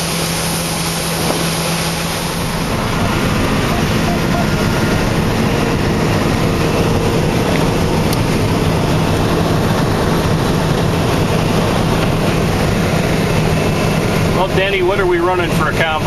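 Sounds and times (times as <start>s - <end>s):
combine harvester droning: 0.0s - 16.0s.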